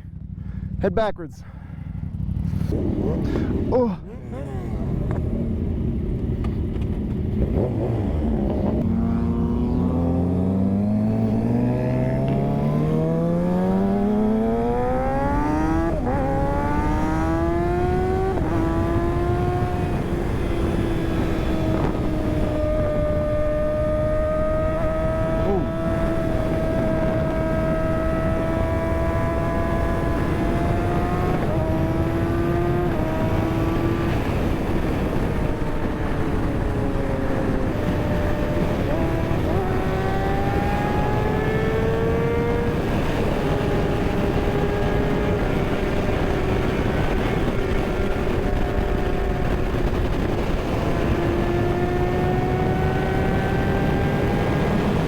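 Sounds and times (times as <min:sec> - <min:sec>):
motorcycle engine revving: 0:01.5 - 0:55.0
wind on microphone: 0:07.2 - 0:55.0.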